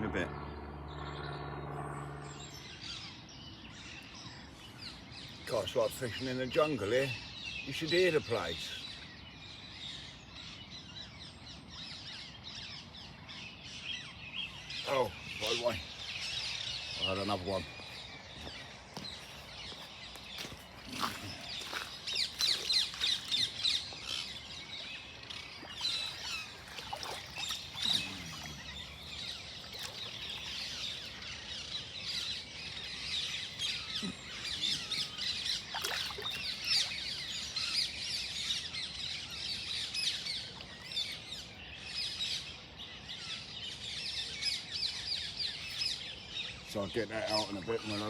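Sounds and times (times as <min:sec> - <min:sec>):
flock of parakeets chirping: 0:02.5 - 0:48.0.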